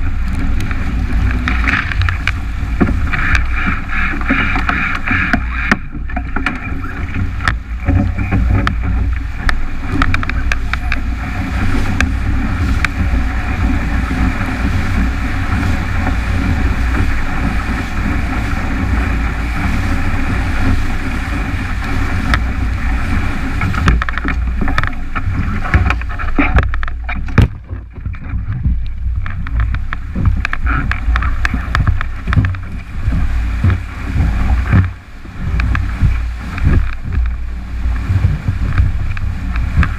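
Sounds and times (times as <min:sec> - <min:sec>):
water rushing along hull: 0:00.0 - 0:39.9
wind buffeting microphone: 0:00.0 - 0:39.9.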